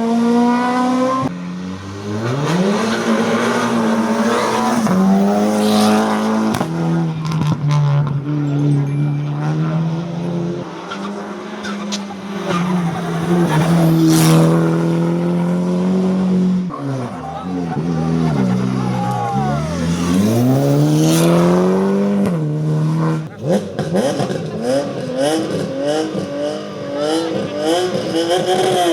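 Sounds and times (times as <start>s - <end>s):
race car engine accelerating: 0.0s - 28.9s.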